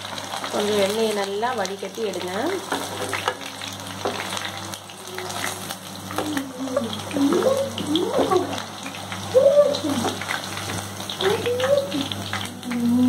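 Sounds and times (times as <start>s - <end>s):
oil sizzling in frying pan: 0.0s - 13.0s.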